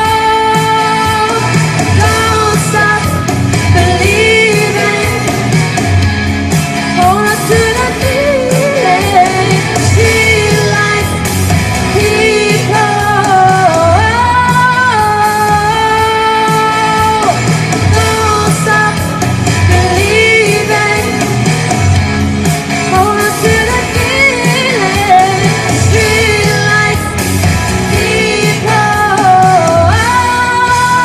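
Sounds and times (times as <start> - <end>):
backing track bass beat: 0.0 - 31.0
person singing rock song: 0.0 - 31.0.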